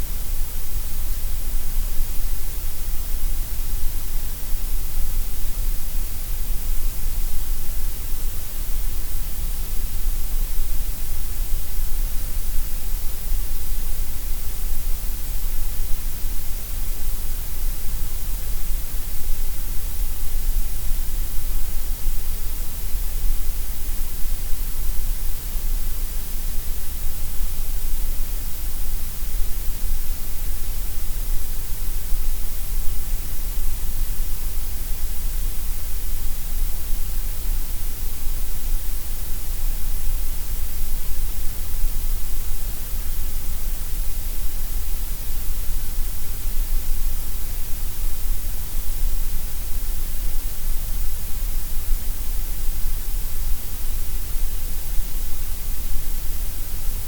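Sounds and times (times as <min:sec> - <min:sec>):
gray noise hiss: 0:00.0 - 0:57.0.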